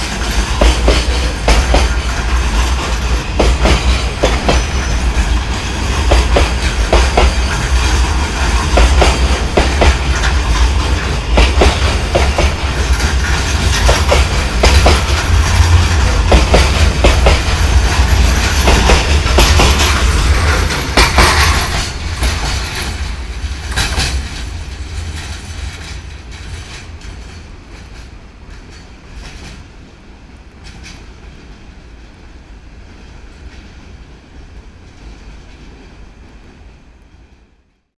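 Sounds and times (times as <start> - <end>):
train wheels clacking over rail joints: 0.0 - 31.7.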